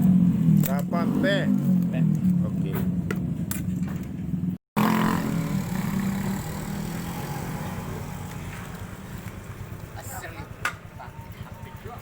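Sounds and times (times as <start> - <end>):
vehicle engine running: 1.3 - 12.0.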